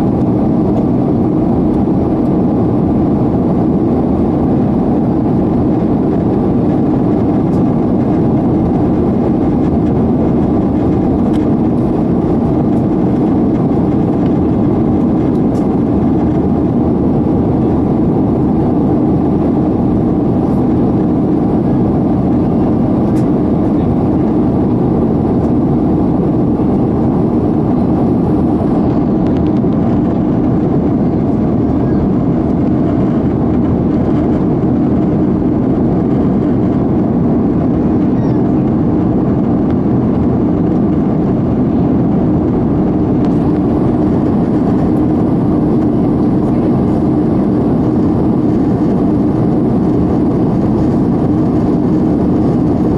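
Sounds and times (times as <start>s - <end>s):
jet airliner cabin engine rush: 0.0s - 52.9s.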